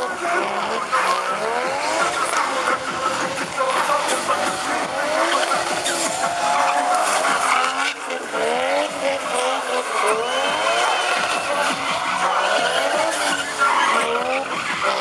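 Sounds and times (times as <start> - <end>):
car engine revving: 0.0 - 15.0
tyres squealing: 0.1 - 15.0.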